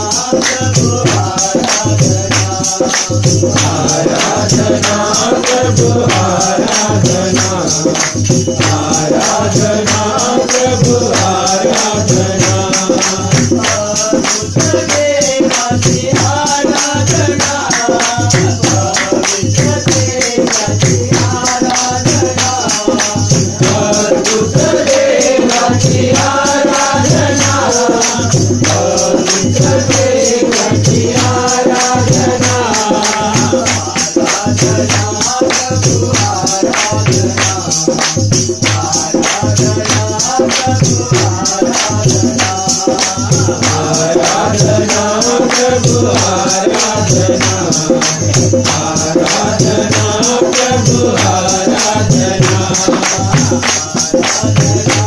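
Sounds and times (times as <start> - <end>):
busy percussion: 0.0 - 55.0
voices singing: 0.0 - 55.0.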